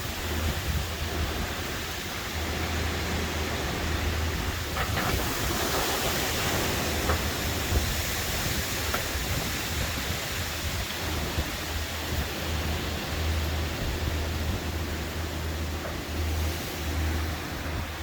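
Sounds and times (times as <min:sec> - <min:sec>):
wind and rain rushing: 0:00.0 - 0:18.0.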